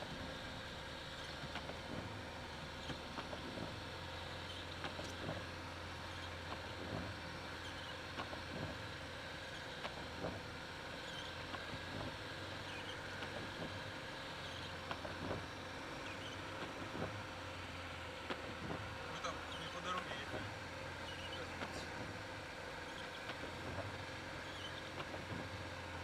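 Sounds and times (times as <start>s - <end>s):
car engine running inside cabin: 0.0s - 26.0s.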